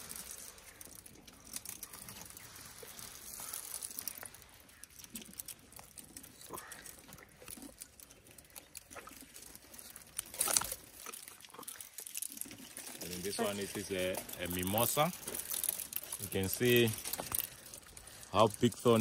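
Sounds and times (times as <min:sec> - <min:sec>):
branches rustling: 0:00.0 - 0:19.0
twigs crackling and snapping: 0:00.0 - 0:19.0.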